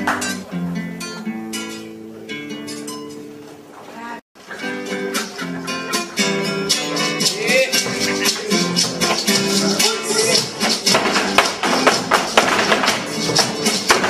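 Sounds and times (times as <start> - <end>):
acoustic guitar folk music: 0.0 - 14.0.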